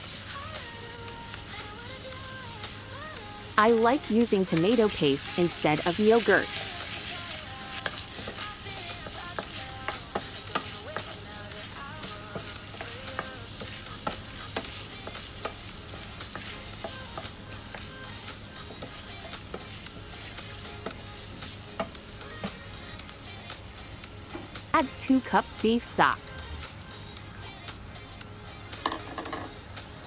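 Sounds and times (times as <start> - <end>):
food sizzling in oil: 0.0 - 26.5.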